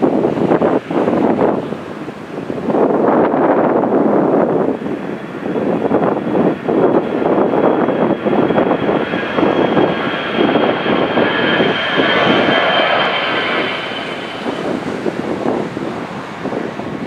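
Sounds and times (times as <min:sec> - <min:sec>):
jet engine high whine: 0:00.0 - 0:17.0
jet engines rushing: 0:00.0 - 0:17.0.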